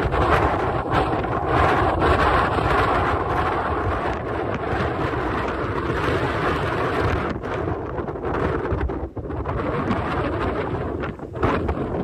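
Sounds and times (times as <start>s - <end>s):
ocean surf breaking on rocks: 0.0s - 12.0s
wind buffeting microphone: 0.0s - 12.0s.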